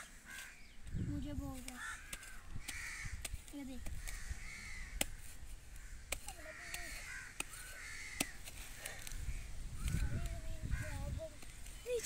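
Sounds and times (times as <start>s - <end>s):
crows cawing: 0.0s - 11.2s.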